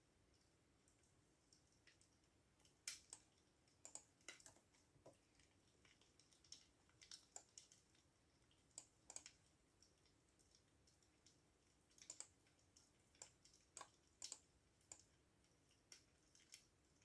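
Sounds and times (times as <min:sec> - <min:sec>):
faint computer keyboard typing: 0:00.3 - 0:17.0.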